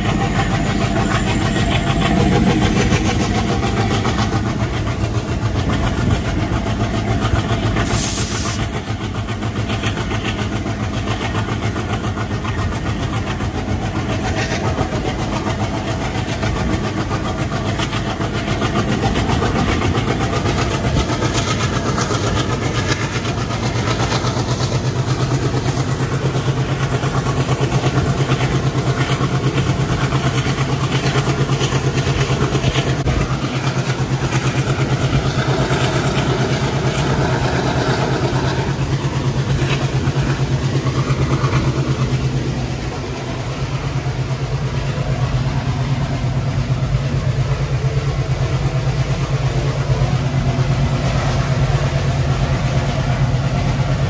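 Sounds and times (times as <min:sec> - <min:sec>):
diesel locomotive engine chugging: 0:00.0 - 0:54.0.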